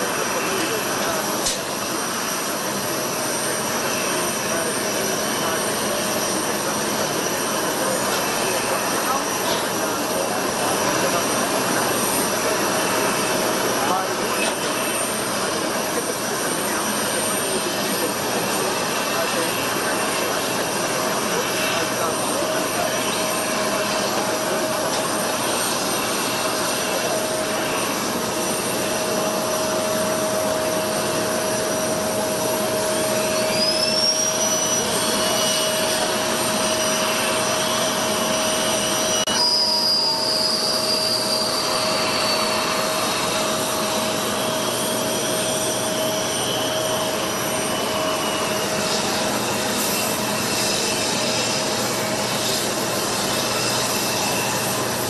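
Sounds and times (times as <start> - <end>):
high turbine whine: 0.0 - 55.0
jet turbine rushing: 0.0 - 55.0.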